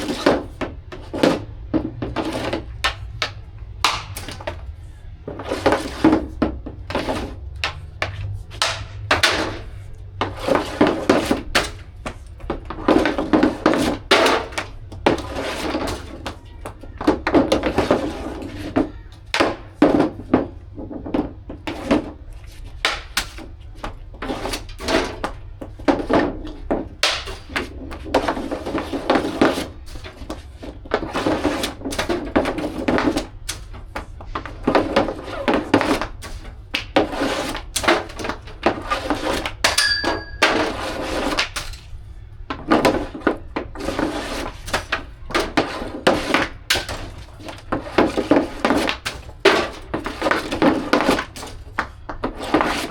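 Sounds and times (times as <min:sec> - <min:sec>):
hockey stick hitting puck: 0:00.0 - 0:52.9.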